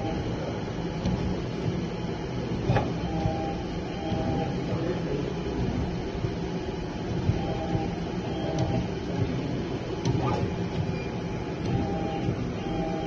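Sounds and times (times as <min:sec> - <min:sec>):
soldering machine humming: 0:00.0 - 0:13.0.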